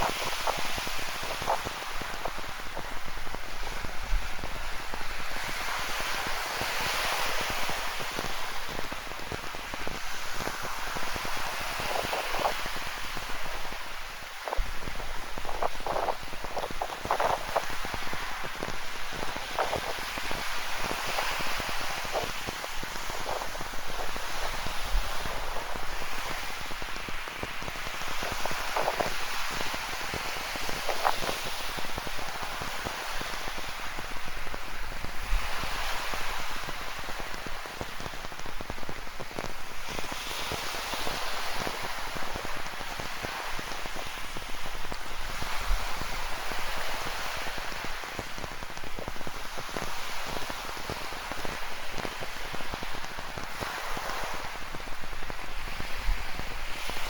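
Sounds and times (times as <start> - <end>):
ocean surf: 0.0 - 57.0.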